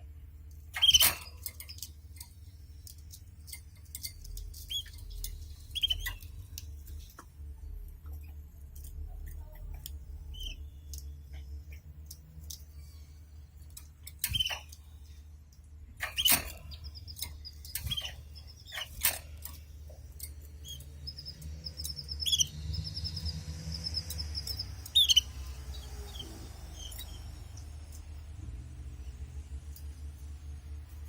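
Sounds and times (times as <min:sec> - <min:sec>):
low steady hum: 0:00.0 - 0:31.0
birds clicking and tapping in cage: 0:00.5 - 0:31.0
canaries chirping and trilling: 0:00.8 - 0:07.3, 0:08.1 - 0:13.0, 0:13.7 - 0:15.2, 0:16.0 - 0:28.2.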